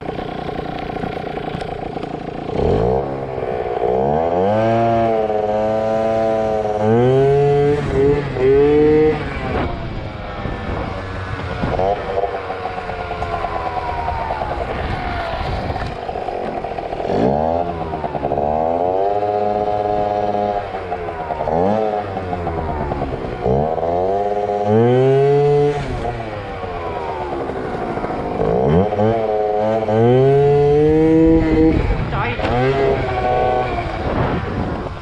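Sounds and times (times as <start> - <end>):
scooter engine revving: 0.0 - 35.0.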